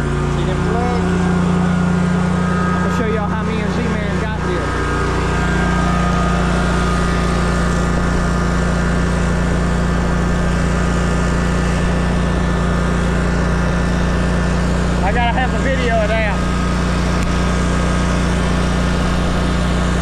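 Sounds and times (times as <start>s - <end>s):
riding mower engine running: 0.0s - 20.0s.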